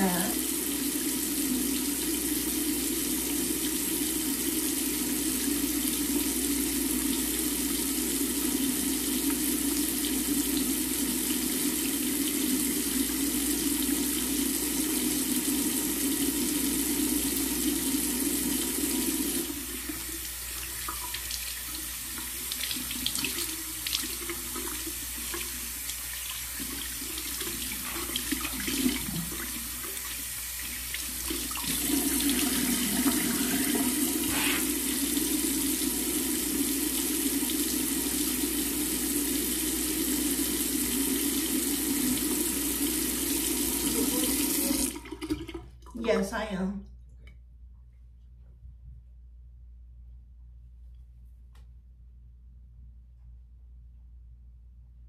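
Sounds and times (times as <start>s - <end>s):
faucet water running: 0.0s - 46.5s.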